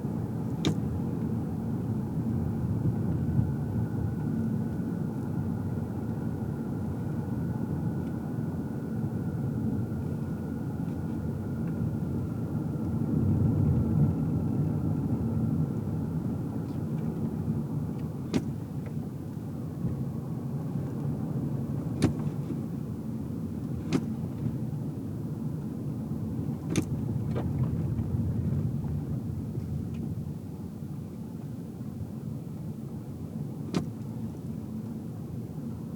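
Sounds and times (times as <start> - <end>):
road and tyre rumble: 0.0 - 35.9.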